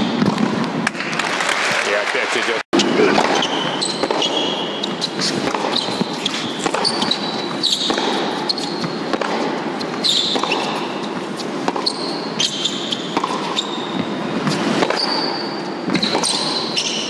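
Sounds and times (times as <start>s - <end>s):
tennis ball bouncing: 0.1s - 1.1s, 2.8s - 17.0s
racket striking ball: 0.1s - 1.2s, 2.8s - 17.0s
shoes squeaking on court: 2.8s - 17.0s.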